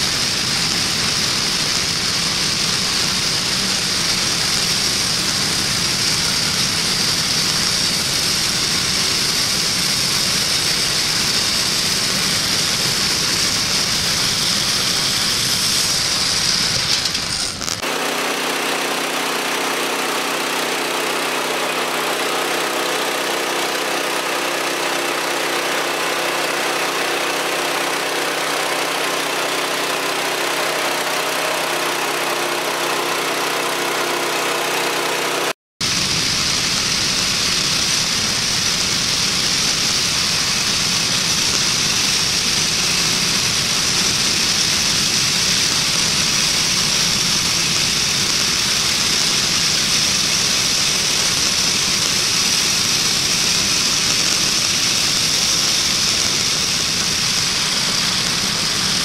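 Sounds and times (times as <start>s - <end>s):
band saw blade hissing through log: 0.0s - 59.0s
gas engine running: 0.0s - 59.0s.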